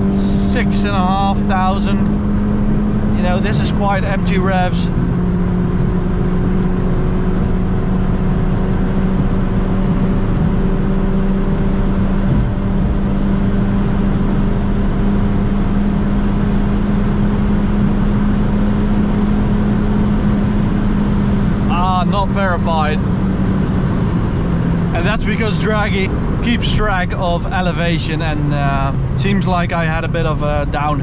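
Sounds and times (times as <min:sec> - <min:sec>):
car engine droning: 0:00.0 - 0:31.0
road and wind noise: 0:00.0 - 0:31.0.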